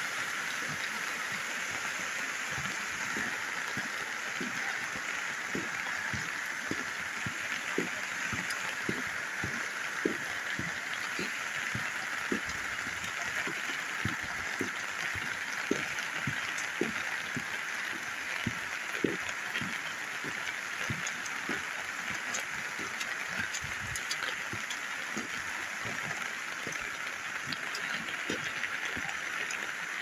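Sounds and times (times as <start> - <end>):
floodwater rushing: 0.0 - 30.0
raindrops tapping: 0.2 - 30.0.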